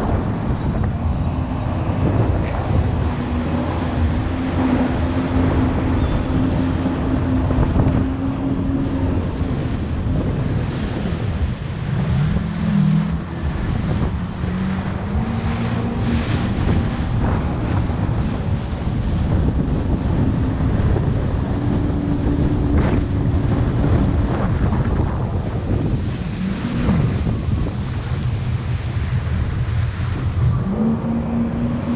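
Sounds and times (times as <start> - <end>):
jet ski engine running: 0.0 - 31.9
water noise: 0.0 - 31.9
wind buffeting microphone: 0.0 - 31.9.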